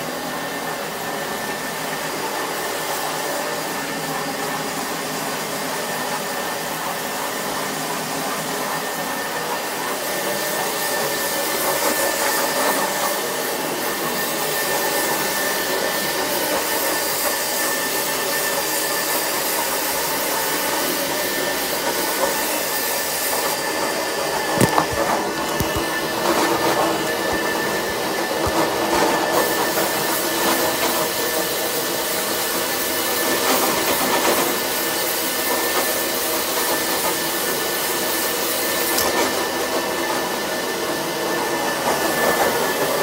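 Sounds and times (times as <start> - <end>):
carpet extraction vacuum rushing: 0.0 - 43.0.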